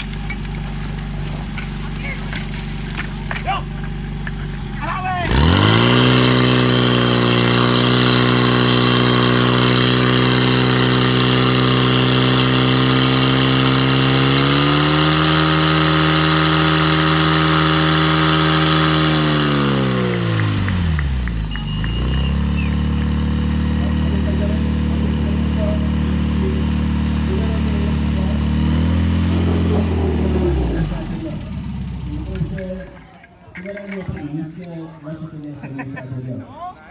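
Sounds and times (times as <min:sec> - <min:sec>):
pump engine running: 0:00.0 - 0:33.0.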